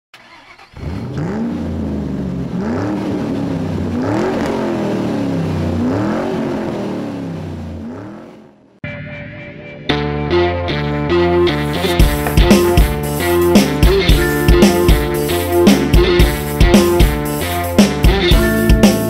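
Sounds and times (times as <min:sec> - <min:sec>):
engine revving: 0:00.2 - 0:08.8, 0:10.8 - 0:18.2.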